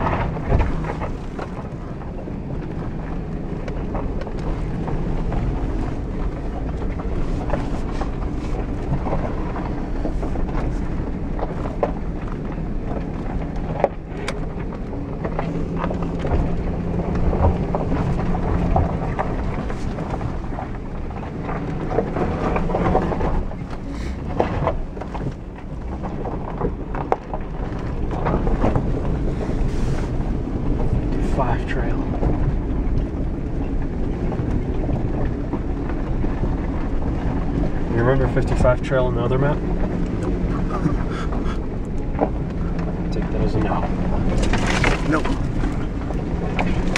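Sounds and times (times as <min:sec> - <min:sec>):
engine and drivetrain rumble: 0:00.0 - 0:46.9
knocks and rattles over bumps: 0:00.0 - 0:46.9.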